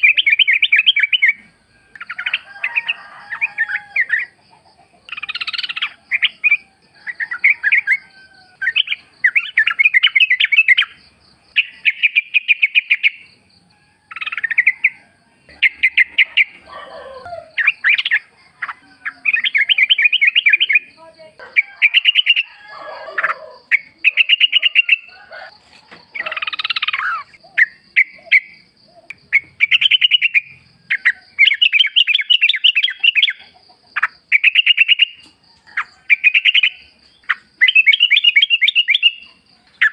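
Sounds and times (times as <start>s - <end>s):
lower bird calls: 0.0s - 4.4s, 5.1s - 13.4s, 14.0s - 39.9s
bird chattering song: 0.0s - 4.5s, 5.1s - 13.4s, 14.1s - 22.6s, 23.2s - 25.5s, 26.1s - 39.9s.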